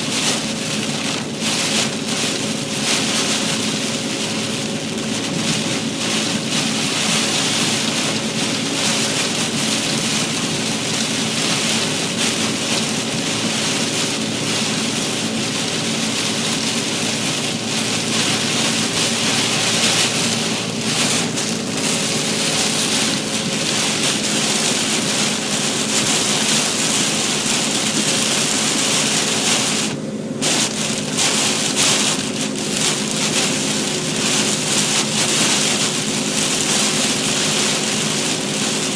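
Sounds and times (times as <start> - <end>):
heavy rain on a car: 0.0 - 38.9.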